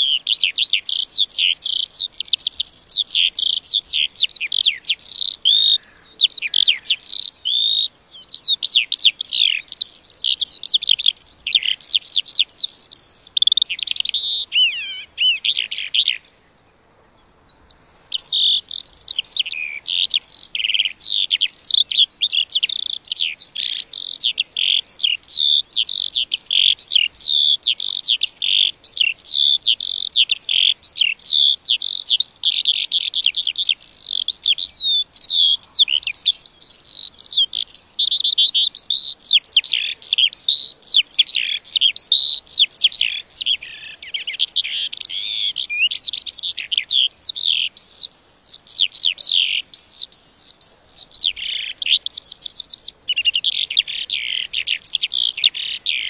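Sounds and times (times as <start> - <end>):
lark singing: 0.0 - 56.0.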